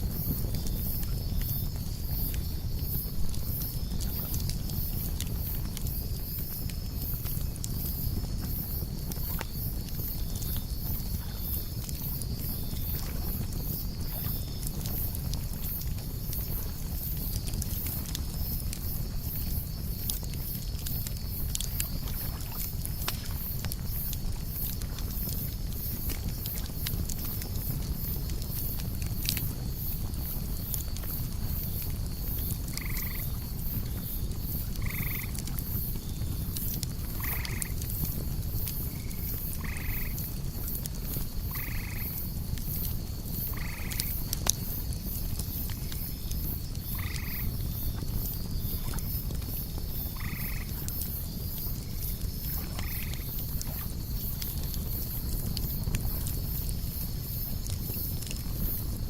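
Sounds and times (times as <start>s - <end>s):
campfire crackling: 0.0s - 59.0s
insect chorus: 0.0s - 59.0s.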